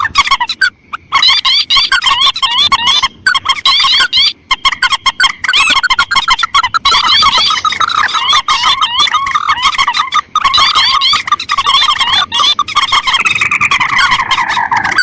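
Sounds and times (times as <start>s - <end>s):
rails and crakes calling: 0.0s - 15.0s.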